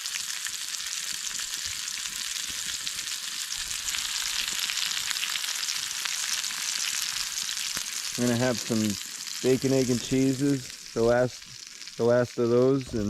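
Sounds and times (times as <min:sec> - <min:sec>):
bacon sizzling in a pan: 0:00.0 - 0:13.0.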